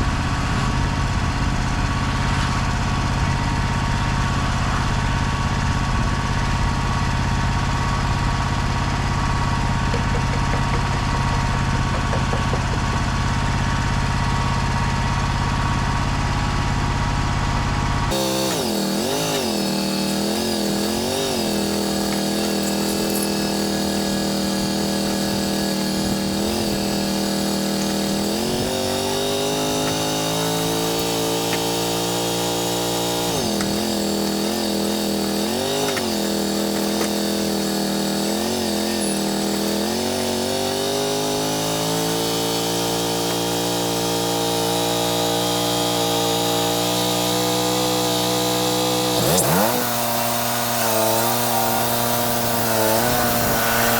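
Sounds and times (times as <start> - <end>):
band saw cutting log: 0.0 - 53.9
sawmill engine running: 0.0 - 53.9.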